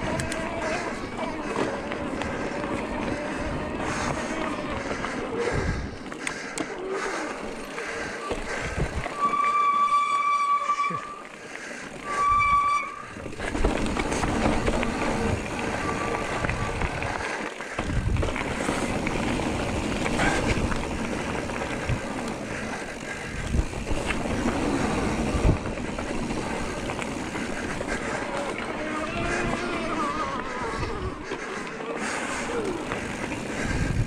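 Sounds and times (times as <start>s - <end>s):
bike tyre rumble and rattling: 0.0s - 34.0s.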